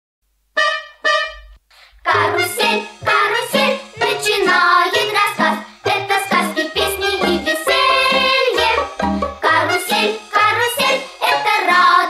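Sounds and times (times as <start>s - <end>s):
upbeat children's music with singing: 1.9s - 12.0s.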